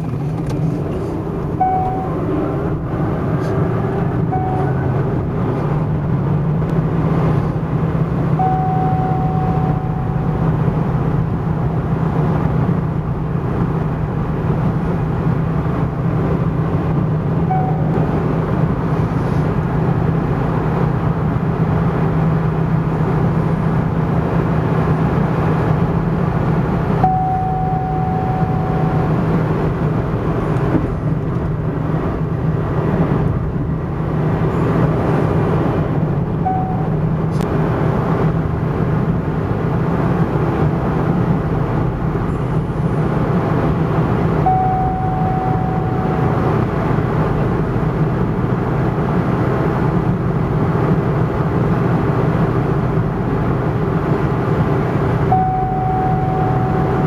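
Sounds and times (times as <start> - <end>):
car engine running steadily: 0.0 - 57.0.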